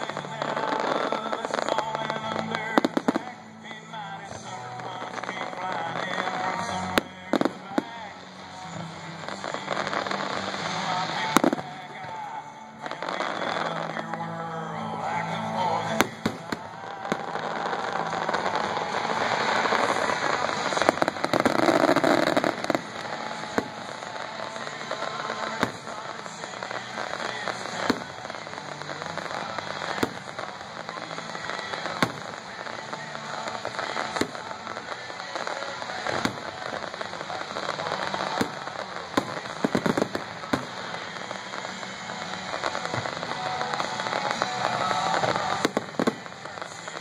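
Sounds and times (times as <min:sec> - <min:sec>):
firework crackling: 0:00.0 - 0:47.0.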